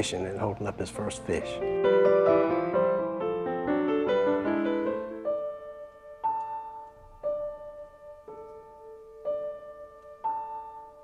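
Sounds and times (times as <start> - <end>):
slow soft piano music: 0.0 - 11.0.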